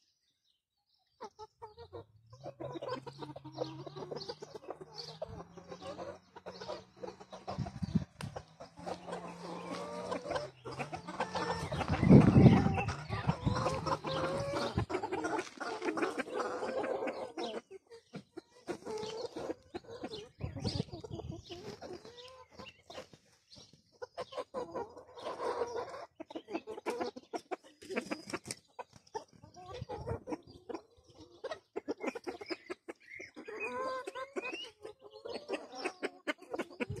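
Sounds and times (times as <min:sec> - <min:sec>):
chickens clucking softly: 0:00.4 - 0:37.0.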